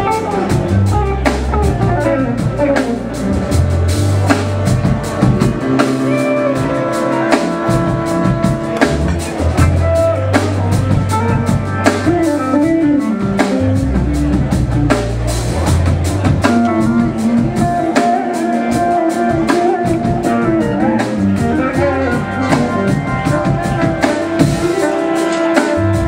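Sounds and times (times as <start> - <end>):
bass: 0.0 - 26.0
drum kit: 0.0 - 26.0
electric guitar lines: 0.0 - 26.0.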